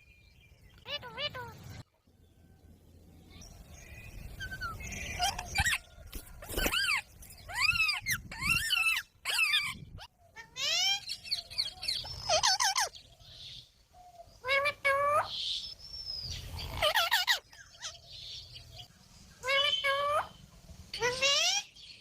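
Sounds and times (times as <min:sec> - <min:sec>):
parakeets calling and chirping: 0:00.5 - 0:01.8, 0:03.3 - 0:22.0.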